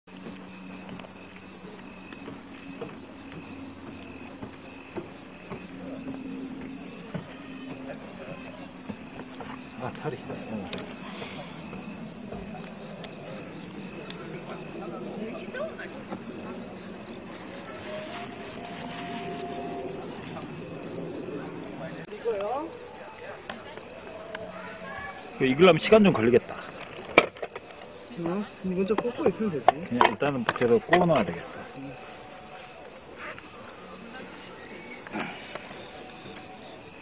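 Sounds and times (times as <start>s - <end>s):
crickets trilling: 0.1s - 37.0s
pulsing insect call: 0.1s - 37.0s.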